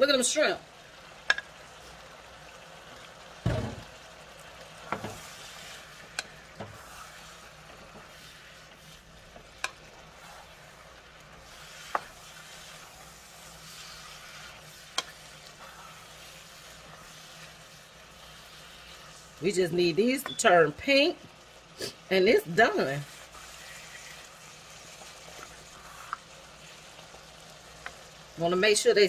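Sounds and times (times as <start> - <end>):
food sizzling in frying pan: 0.0 - 29.0
wooden spatula stirring: 2.8 - 28.4.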